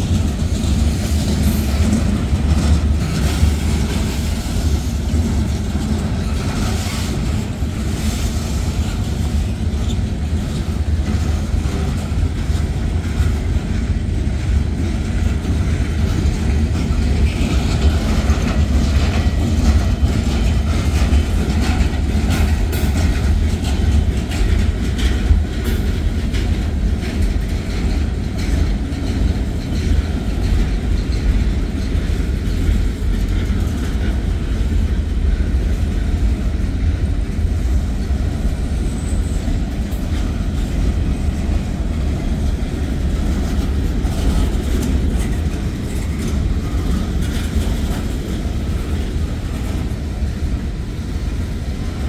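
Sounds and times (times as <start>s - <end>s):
clanks from train wheels: 0.0s - 52.0s
freight train rolling past: 0.0s - 52.0s.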